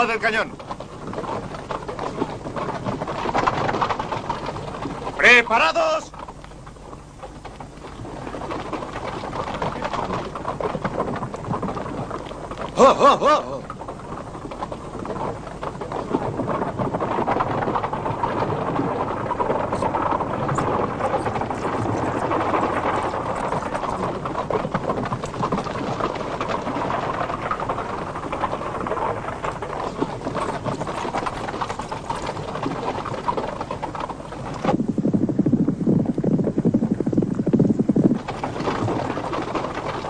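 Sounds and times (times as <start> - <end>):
horses galloping: 0.0 - 40.0.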